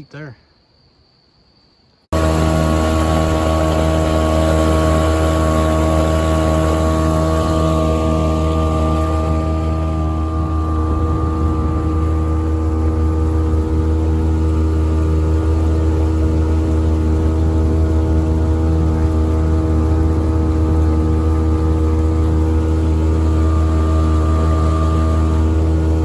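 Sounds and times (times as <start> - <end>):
outboard motor running: 2.1 - 26.0.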